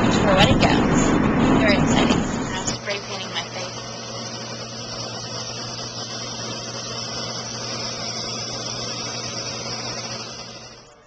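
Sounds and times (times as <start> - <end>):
blower air rush: 0.0 - 11.0
low motor hum: 0.0 - 11.0.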